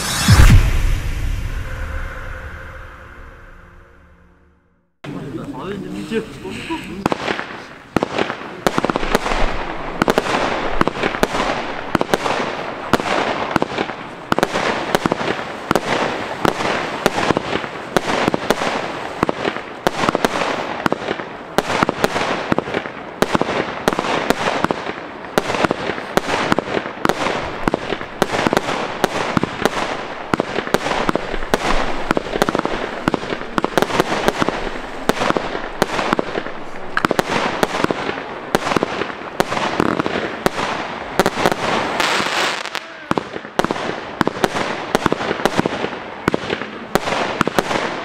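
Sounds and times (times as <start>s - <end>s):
fireworks cake firing: 6.5s - 48.0s.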